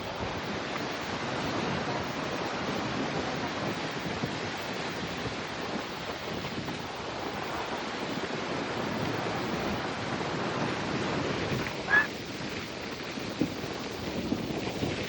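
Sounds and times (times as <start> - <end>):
ocean surf washing onto shore: 0.0 - 15.0
wind buffeting microphone: 0.0 - 15.0.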